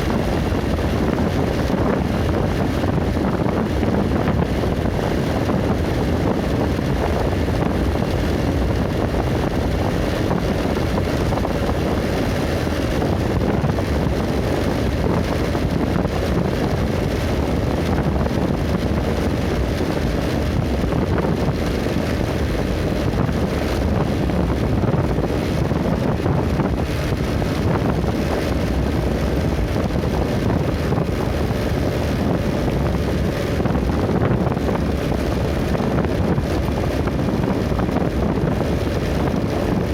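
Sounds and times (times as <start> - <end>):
road vehicle rumble: 0.0 - 39.9
wind buffeting microphone: 0.0 - 39.9.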